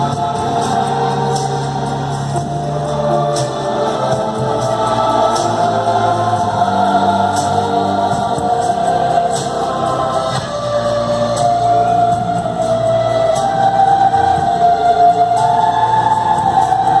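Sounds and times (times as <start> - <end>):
choir singing held chords: 0.0 - 17.0
musical accompaniment: 0.0 - 17.0.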